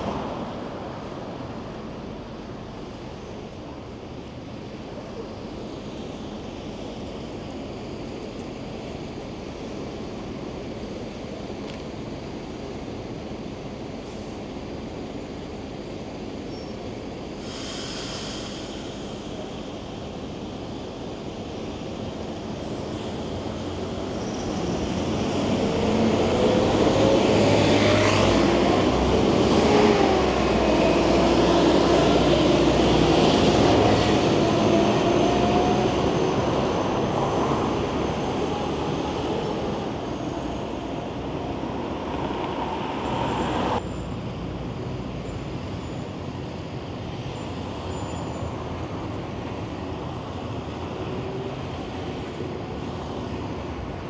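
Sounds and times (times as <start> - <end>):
traffic hum: 0.0 - 54.0.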